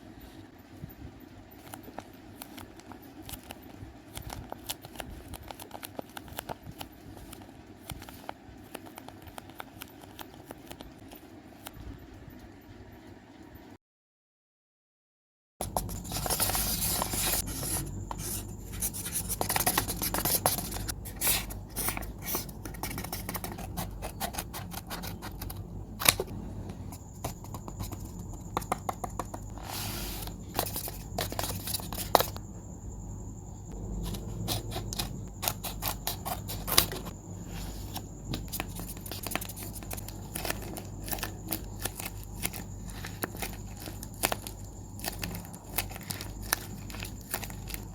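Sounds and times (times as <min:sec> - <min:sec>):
paper crinkling and rustling: 0:01.6 - 0:11.7, 0:15.6 - 0:26.3, 0:26.9 - 0:32.4, 0:34.0 - 0:47.9.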